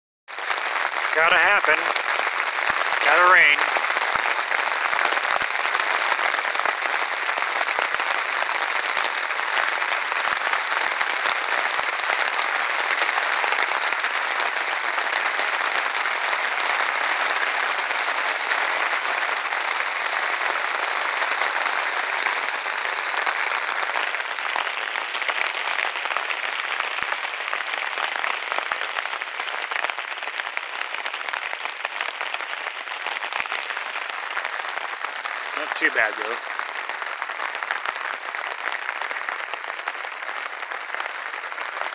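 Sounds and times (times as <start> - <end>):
raindrops pattering: 0.3 - 41.9
steady rain falling: 0.3 - 41.9.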